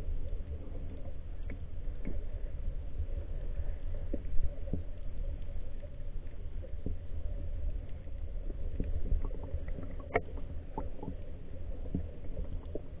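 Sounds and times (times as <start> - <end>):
faint underwater clicks: 0.0 - 13.0
underwater rumble: 0.0 - 13.0.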